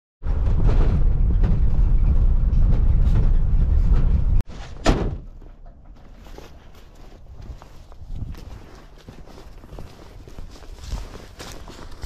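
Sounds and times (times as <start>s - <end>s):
vehicle engine and road rumble: 0.2s - 12.0s.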